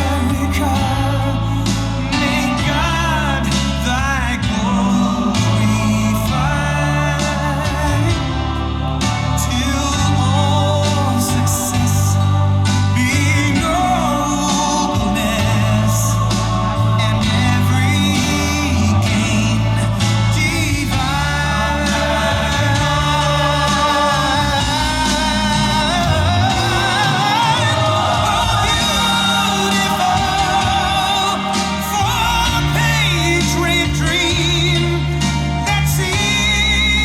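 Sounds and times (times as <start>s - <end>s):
gospel choir singing: 0.0s - 37.0s.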